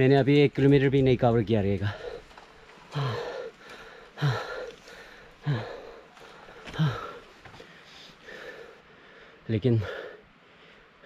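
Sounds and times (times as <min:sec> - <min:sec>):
man breathing hard: 0:01.9 - 0:11.0.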